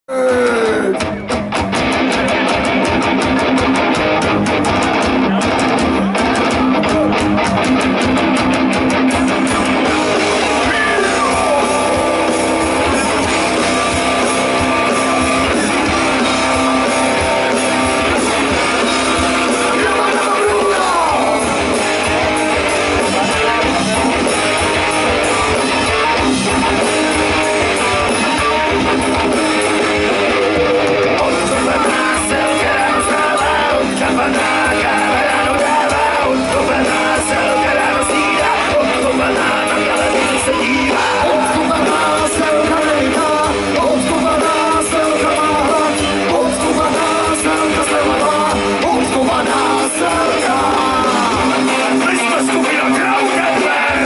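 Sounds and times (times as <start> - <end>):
rock band playing live: 0.1 - 54.0.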